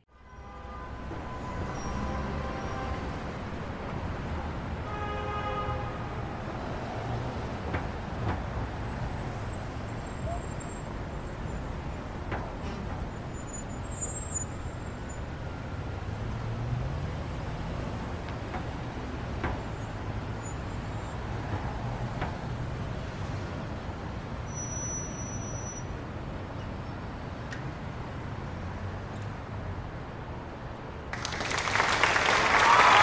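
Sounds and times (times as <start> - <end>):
traffic engine rumble: 5.8 - 33.0.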